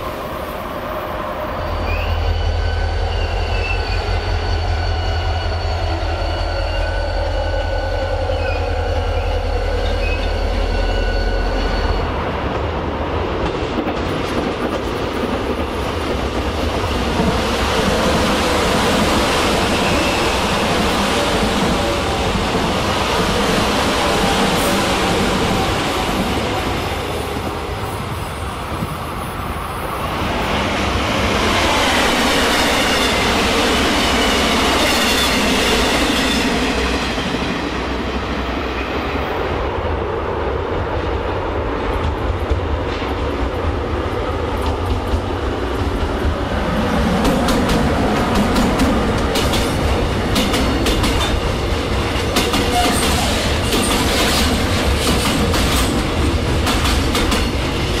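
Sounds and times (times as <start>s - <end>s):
commuter train passing: 0.0s - 58.0s
freight train rolling by: 0.0s - 58.0s.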